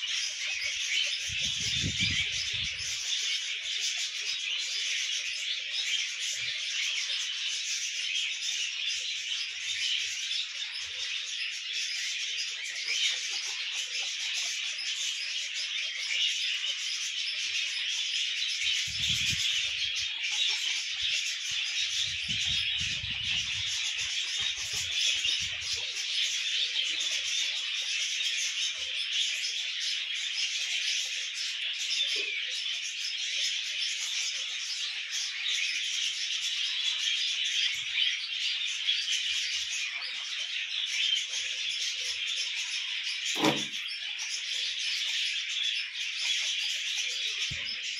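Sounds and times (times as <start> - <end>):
small birds twittering: 0.0 - 47.9.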